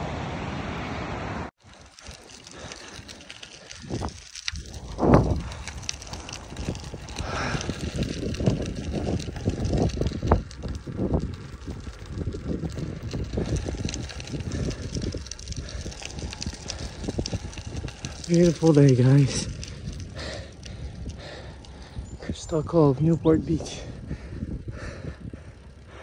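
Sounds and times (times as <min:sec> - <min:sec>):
bicycle tyres on rough asphalt: 0:01.6 - 0:26.0
wind buffeting microphone: 0:01.6 - 0:26.0.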